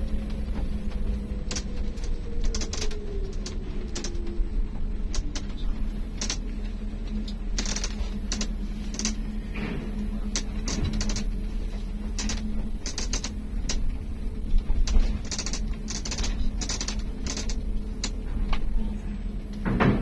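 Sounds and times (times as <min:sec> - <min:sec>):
bus cabin rattling: 0:00.0 - 0:20.0
diesel engine idling hum: 0:00.0 - 0:20.0.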